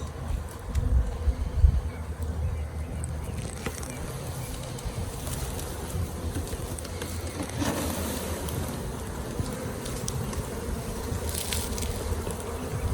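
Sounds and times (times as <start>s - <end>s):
bee swarm buzzing: 0.0s - 12.9s
wind rumbling on microphone: 0.0s - 12.9s.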